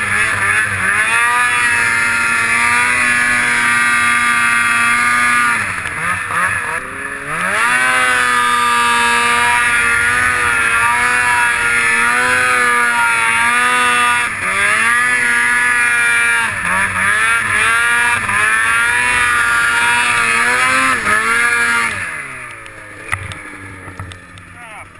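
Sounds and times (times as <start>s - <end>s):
snowmobile engine revving: 0.0s - 24.9s.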